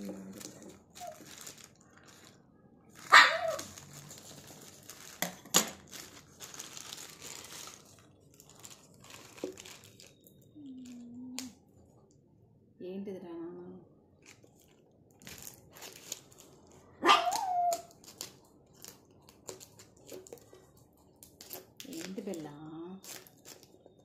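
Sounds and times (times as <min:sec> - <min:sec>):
plastic mailer crinkling: 0:00.0 - 0:11.5, 0:14.2 - 0:20.6, 0:21.2 - 0:24.0.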